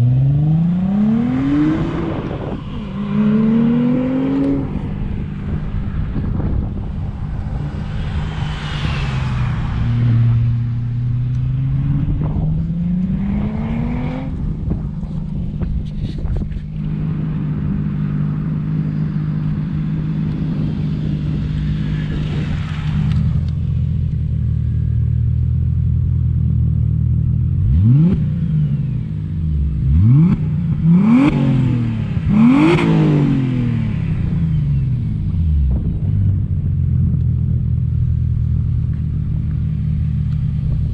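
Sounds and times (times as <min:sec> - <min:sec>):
sports car engine idling and revving: 0:00.0 - 0:40.9.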